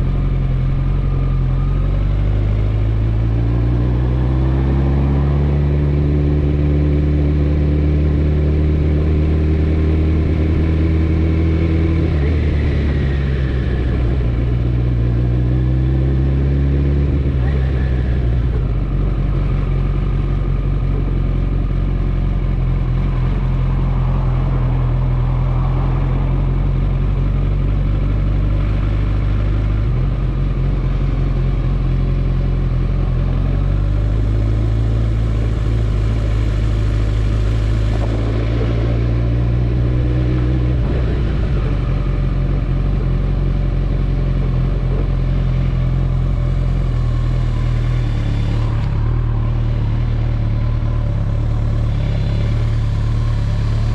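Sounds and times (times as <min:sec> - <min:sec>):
motorcycle engine running: 0:00.0 - 0:25.4, 0:26.2 - 0:53.9.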